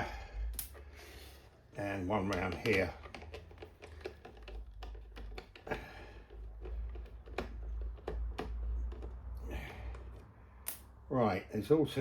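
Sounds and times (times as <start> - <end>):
metal and plastic parts handled: 0.7 - 10.3.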